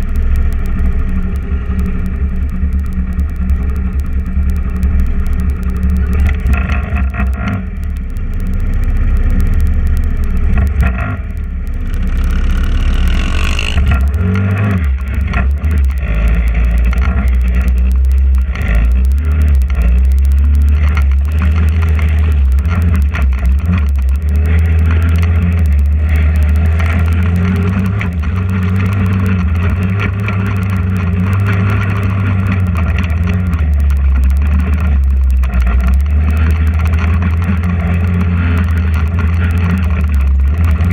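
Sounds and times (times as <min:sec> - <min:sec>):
go-kart engine running: 0:00.0 - 0:40.9.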